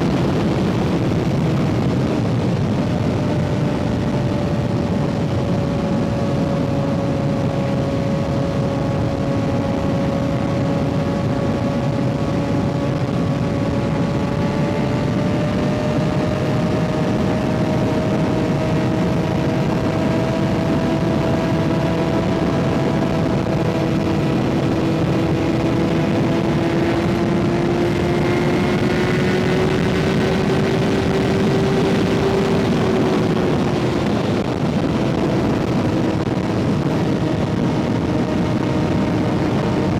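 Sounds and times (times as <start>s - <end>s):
motorcycle engine while riding: 0.0s - 39.9s
wind rushing: 0.0s - 39.9s.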